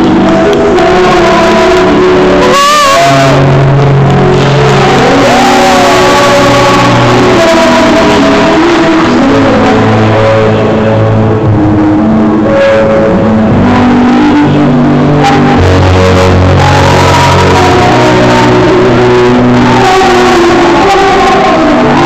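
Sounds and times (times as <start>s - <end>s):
woman singing into a microphone: 0.0s - 11.6s, 12.3s - 22.0s
backing track music: 0.0s - 22.0s.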